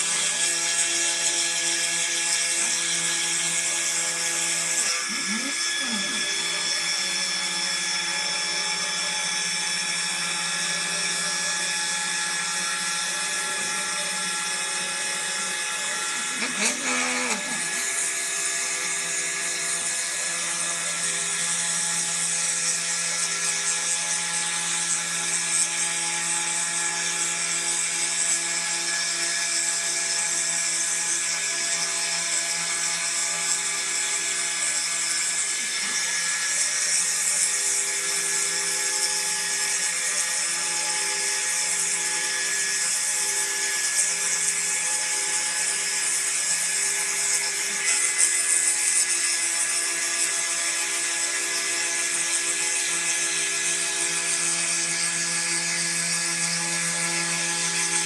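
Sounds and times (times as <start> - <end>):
router spindle whine: 0.0 - 58.0
steady motor tones: 0.0 - 58.0.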